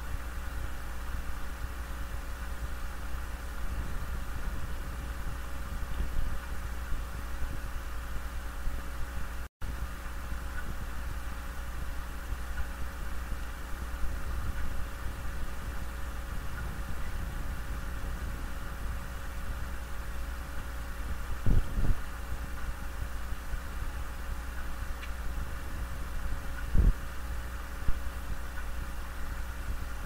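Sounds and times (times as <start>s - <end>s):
faint constant hum: 0.0s - 30.0s
low rumble and hiss: 0.0s - 30.0s.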